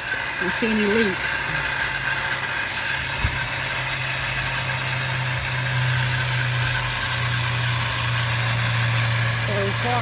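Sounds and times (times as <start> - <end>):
water pump motor humming: 0.0 - 10.0.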